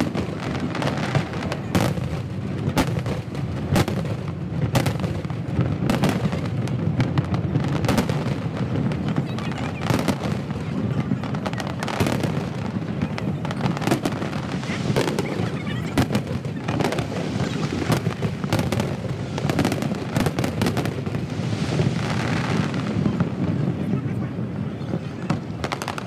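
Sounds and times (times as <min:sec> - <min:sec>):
fireworks bursting with crackling: 0:00.0 - 0:26.0.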